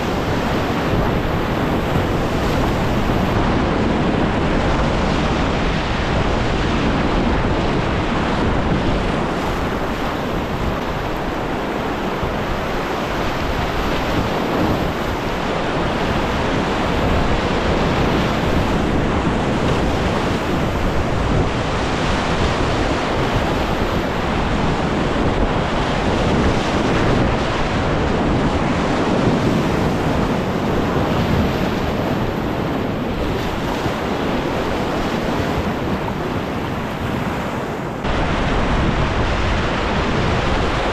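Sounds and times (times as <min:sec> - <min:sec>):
rapids rushing: 0:00.0 - 0:40.9.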